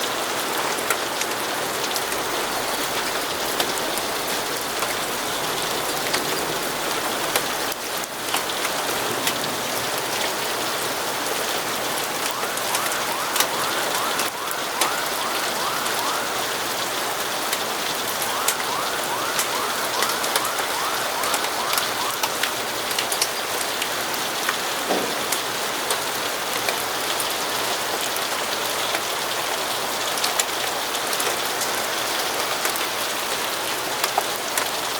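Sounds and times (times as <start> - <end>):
sharp ticks of raindrops: 0.0 - 34.9
steady rain falling: 0.0 - 34.9.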